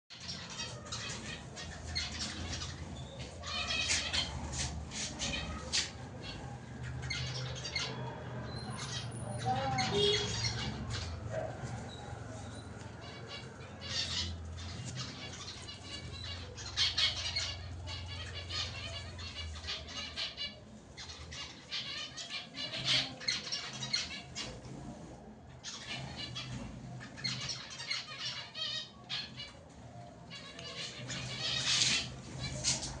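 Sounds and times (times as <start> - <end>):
flock of birds chirping: 0.1 - 33.0.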